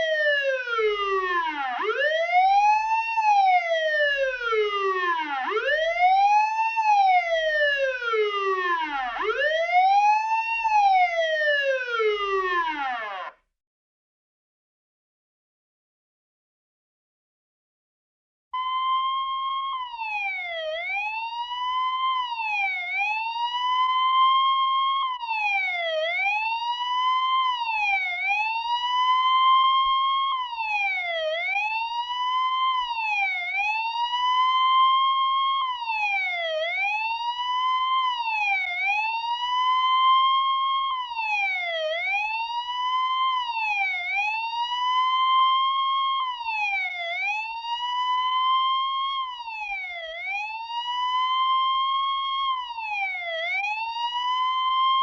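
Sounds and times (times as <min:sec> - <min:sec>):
electronic siren alarm: 0:00.0 - 0:13.4, 0:18.6 - 0:55.0.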